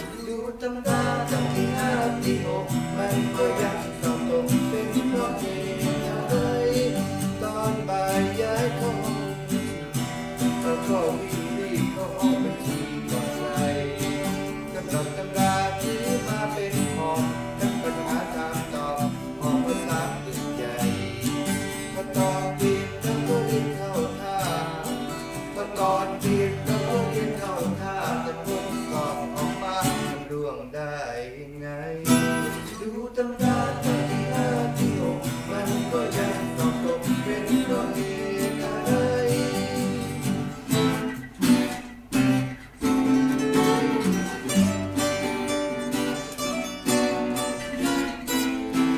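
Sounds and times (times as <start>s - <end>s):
man singing: 0.0s - 48.9s
strummed acoustic guitar: 0.0s - 48.9s.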